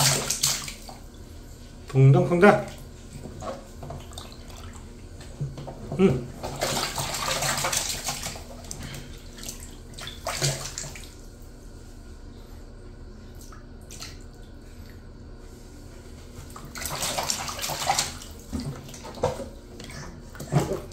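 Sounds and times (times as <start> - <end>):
water splashing in baby bathtub: 0.0 - 1.3, 2.0 - 11.4, 13.2 - 15.1, 16.3 - 20.9.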